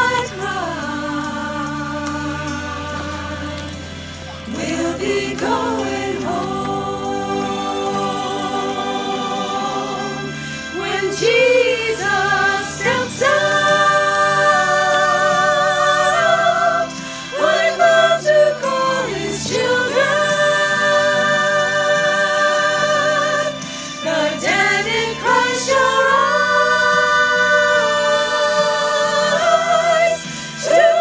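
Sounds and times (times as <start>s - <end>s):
women singing in harmony: 0.0s - 31.0s.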